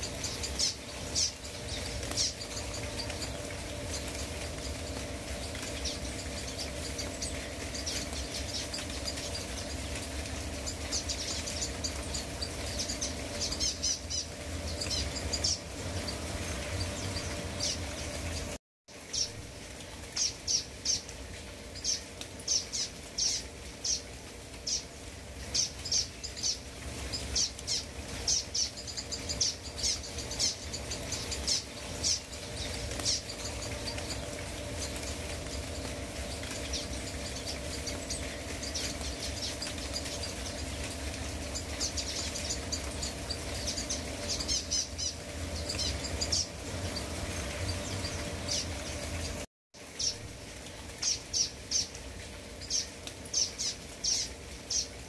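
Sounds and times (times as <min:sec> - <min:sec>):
rain falling on foliage: 0:00.0 - 0:55.0
small birds chirping: 0:00.0 - 0:55.0.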